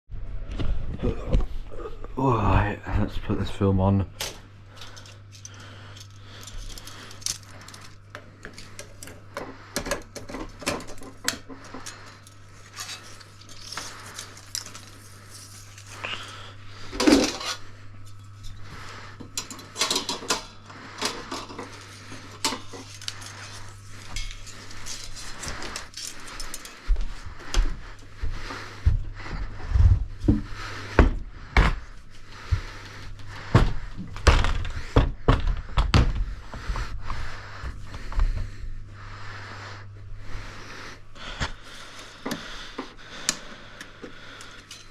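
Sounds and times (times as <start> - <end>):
projector low hum: 0.2 - 44.9.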